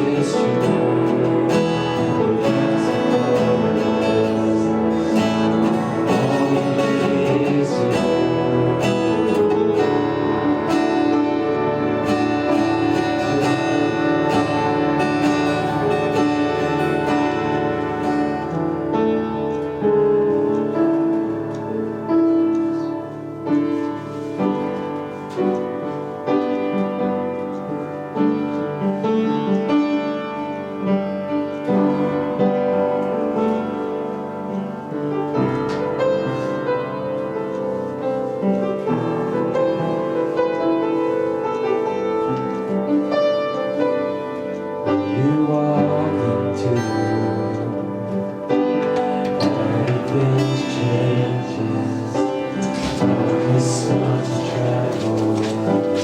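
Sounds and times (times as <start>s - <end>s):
piano chords: 0.0s - 56.0s
worship band playing: 0.0s - 56.0s.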